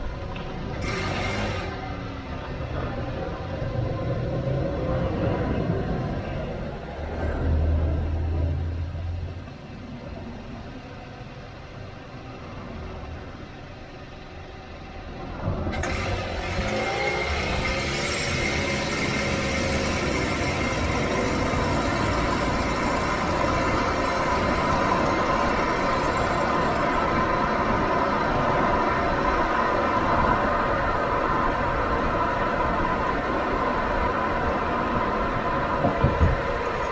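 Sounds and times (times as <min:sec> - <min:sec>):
minivan engine rumble: 0:00.0 - 0:36.9
road noise: 0:00.0 - 0:36.9.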